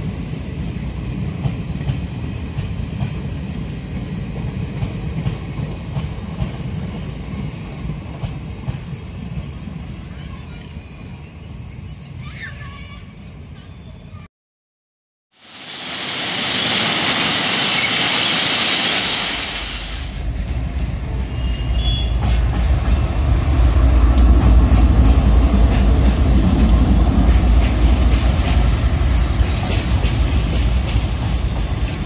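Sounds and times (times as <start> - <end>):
train rushing noise: 0.0 - 11.2, 15.4 - 32.0.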